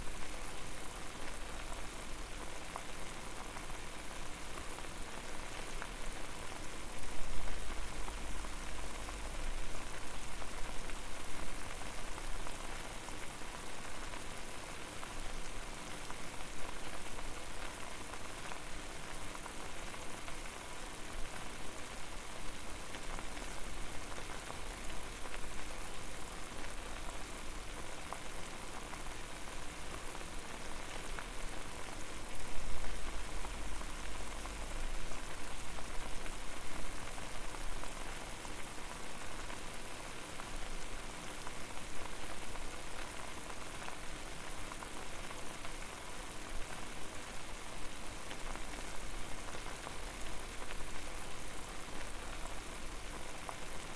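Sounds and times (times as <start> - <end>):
water boiling and bubbling: 0.0 - 53.9.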